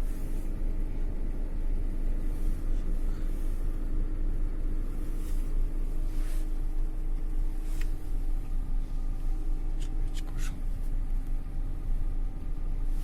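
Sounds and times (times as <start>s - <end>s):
faint hum: 0.0s - 13.0s
van engine rumbling: 0.0s - 13.0s.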